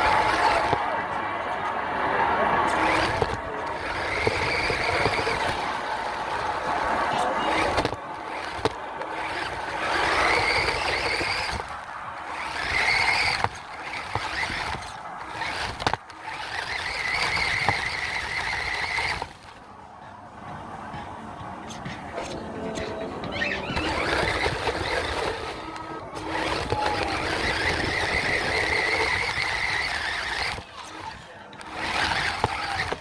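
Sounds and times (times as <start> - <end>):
toy truck motor whining: 0.0 - 19.7, 22.0 - 33.0
gravelly background noise: 0.0 - 33.0.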